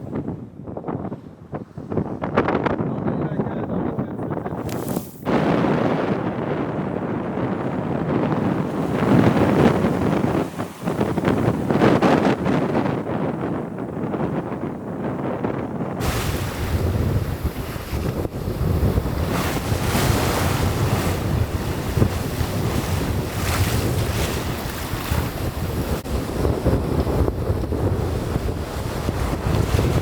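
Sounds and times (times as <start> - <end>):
wind buffeting microphone: 0.0 - 30.0
waves rushing along boat hull: 4.6 - 15.0, 16.0 - 30.0.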